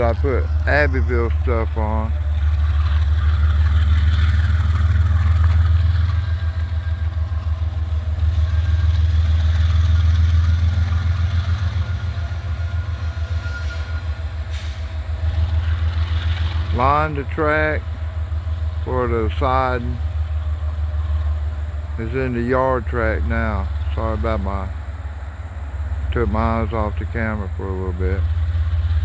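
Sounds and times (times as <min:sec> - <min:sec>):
diesel locomotive engine running: 0:00.0 - 0:29.0.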